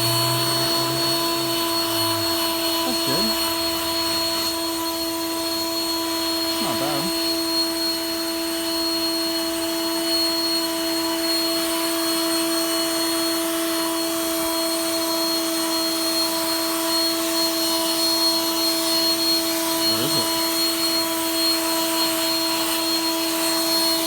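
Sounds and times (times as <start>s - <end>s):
leaf blower whining: 0.0s - 24.0s.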